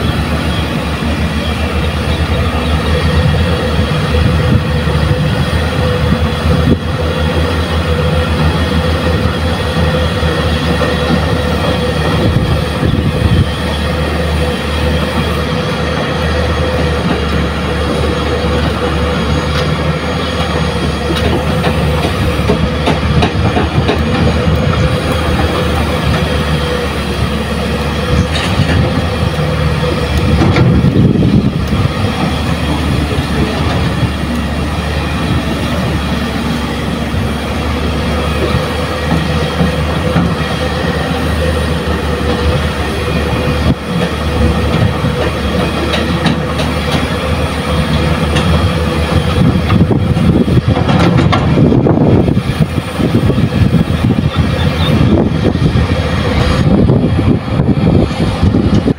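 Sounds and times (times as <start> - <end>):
excavator engine rumble: 0.0 - 58.9.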